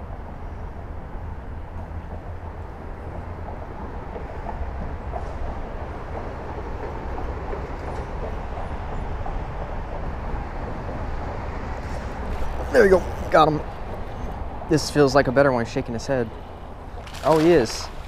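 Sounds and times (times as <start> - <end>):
traffic rumbling on bridge: 0.0 - 18.0.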